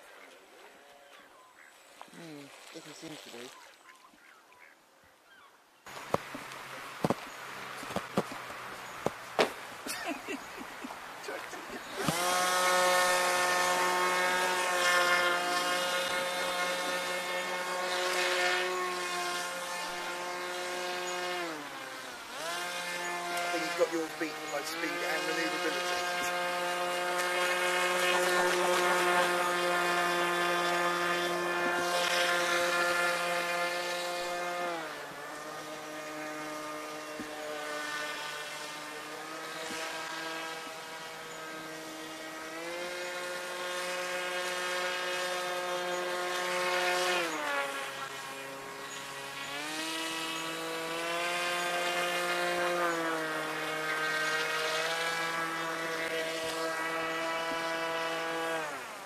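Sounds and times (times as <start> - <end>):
model boat motor buzzing: 0.0 - 3.7, 5.9 - 59.0.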